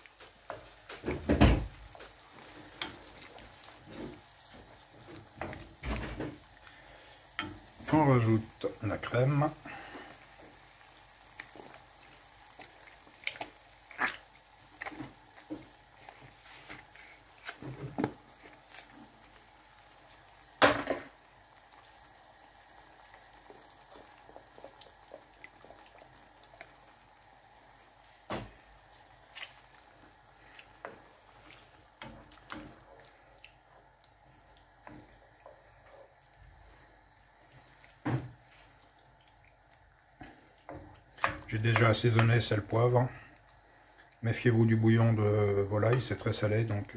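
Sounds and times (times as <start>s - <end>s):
sauce bubbling in a frying pan: 0.0s - 46.9s.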